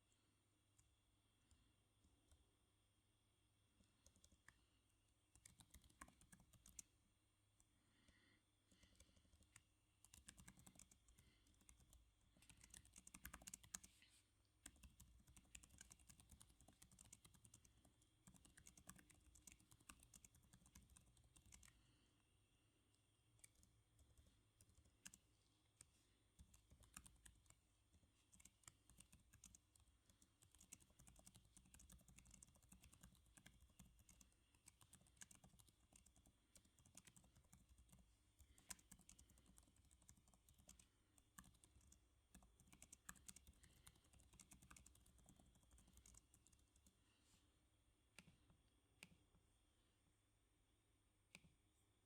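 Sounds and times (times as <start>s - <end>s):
soft typing on keyboard: 0.0s - 2.8s, 3.6s - 49.9s, 51.1s - 52.0s.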